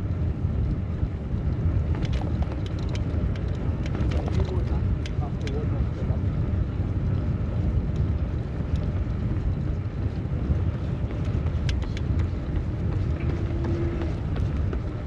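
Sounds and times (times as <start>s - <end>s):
city street traffic: 0.0s - 15.0s
wind buffeting microphone: 0.0s - 15.0s.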